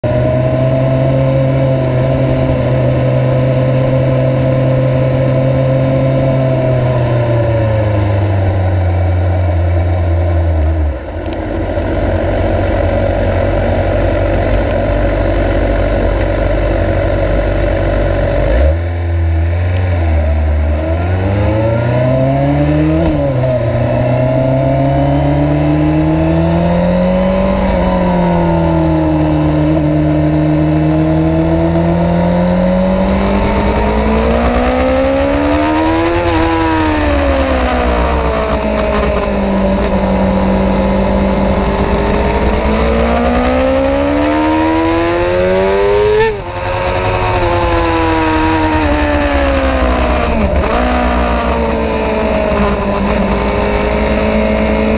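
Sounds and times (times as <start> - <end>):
motorcycle engine revving and idling: 0.0 - 54.9.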